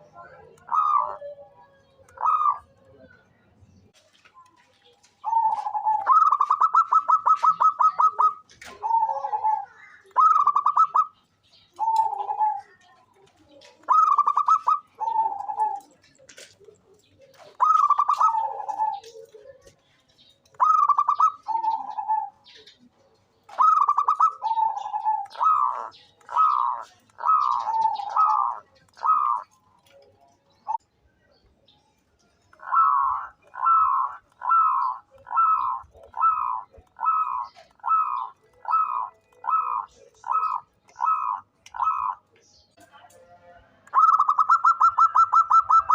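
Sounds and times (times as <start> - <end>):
dove cooing: 0.0 - 3.2, 5.2 - 19.8, 20.5 - 30.8, 32.5 - 42.3, 43.9 - 45.9.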